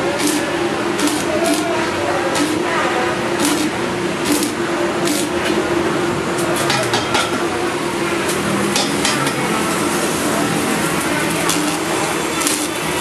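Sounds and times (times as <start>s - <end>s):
welding arc crackling hiss: 0.0s - 13.0s.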